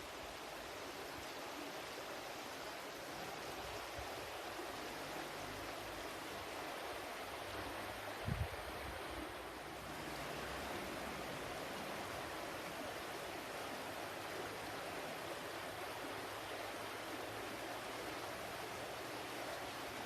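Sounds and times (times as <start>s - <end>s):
water flowing: 0.0s - 20.0s.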